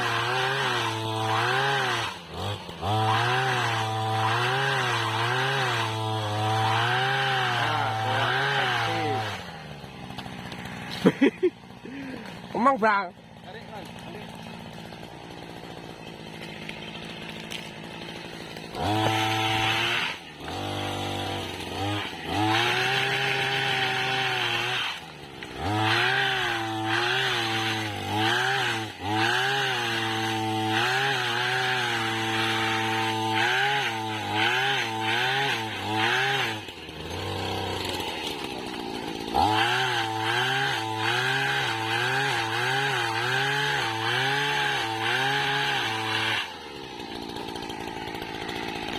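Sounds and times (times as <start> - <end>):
two-stroke pole saw engine revving: 0.0 - 48.9.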